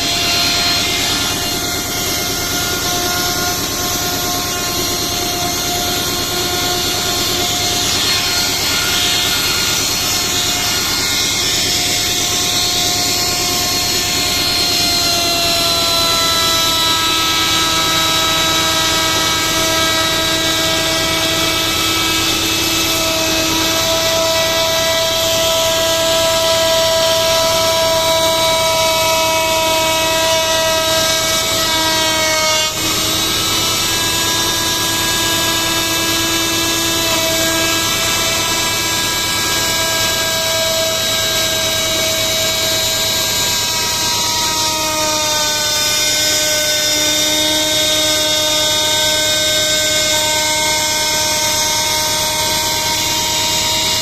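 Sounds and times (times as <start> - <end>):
power tool motor whining: 0.0 - 54.0.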